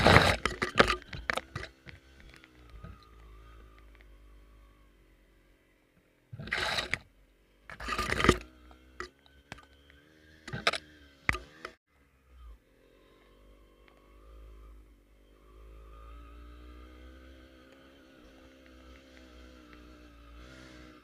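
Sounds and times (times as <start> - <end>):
motorcycle engine humming: 0.0 - 21.0.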